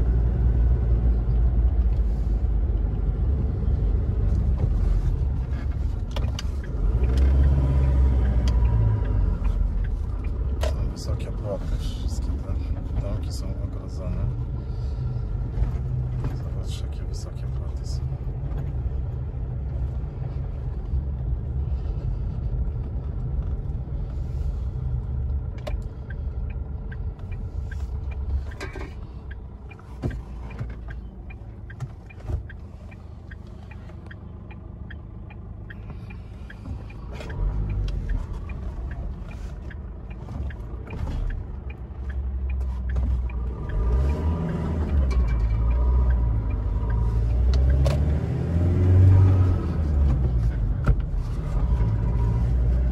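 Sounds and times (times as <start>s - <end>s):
car engine and tyres rumble: 0.0s - 52.9s.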